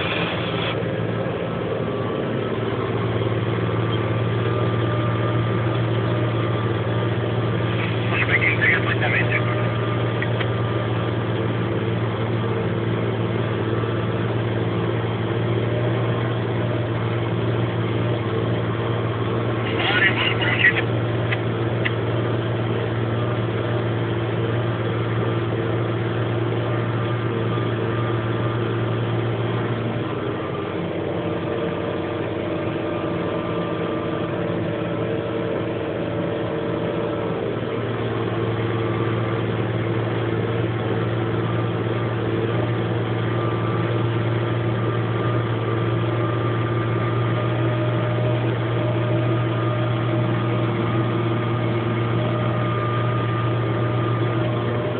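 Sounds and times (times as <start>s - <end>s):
tractor diesel engine droning: 0.0s - 54.9s.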